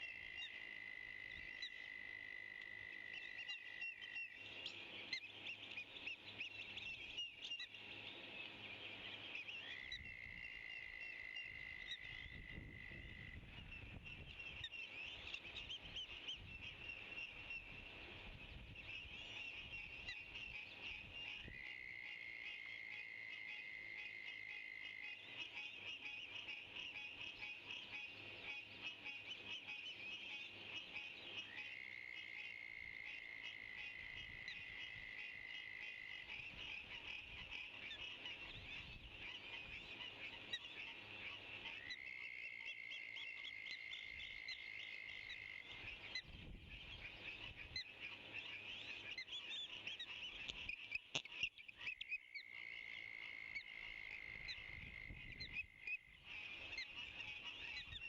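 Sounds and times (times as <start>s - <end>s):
frogs and insects chorus: 0.0s - 58.0s.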